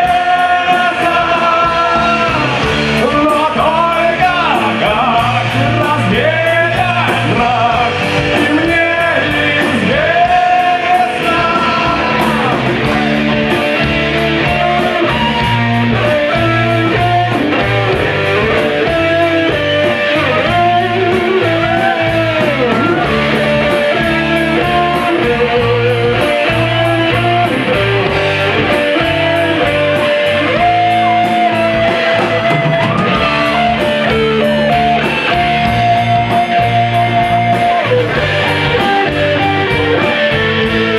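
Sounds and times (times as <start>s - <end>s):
lead guitar melody: 0.0s - 40.9s
rock band playing: 0.0s - 40.9s.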